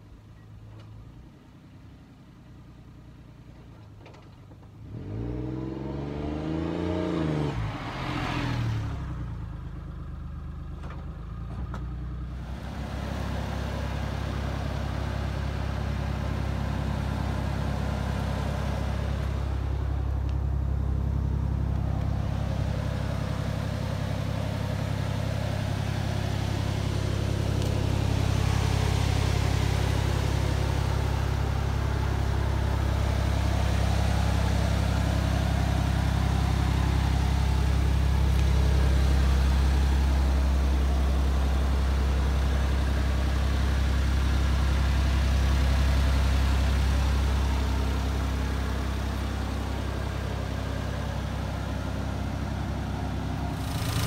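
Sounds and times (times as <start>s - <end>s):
van engine idling: 8.8s - 54.0s.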